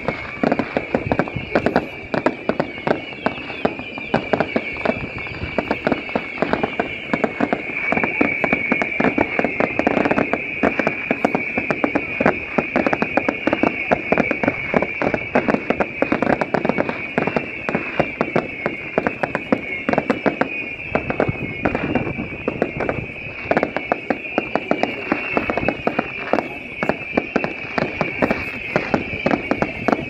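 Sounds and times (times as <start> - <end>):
fireworks crackling pops: 0.0 - 30.0
fireworks high whistle: 0.0 - 30.0.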